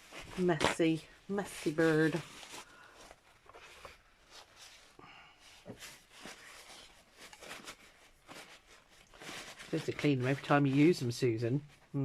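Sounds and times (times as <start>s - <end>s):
faint handling clicks and rustles: 0.0s - 12.0s.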